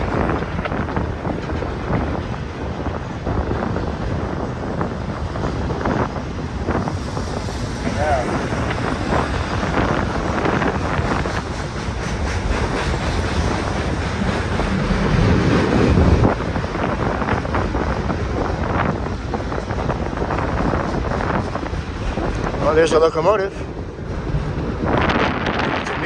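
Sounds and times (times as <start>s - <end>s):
freight train rumbling past: 0.0s - 26.0s
wind buffeting microphone: 0.0s - 26.0s.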